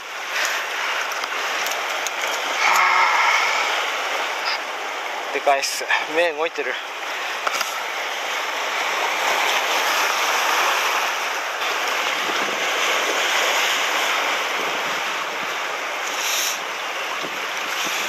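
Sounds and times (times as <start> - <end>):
surf breaking over rocks: 0.0 - 18.0.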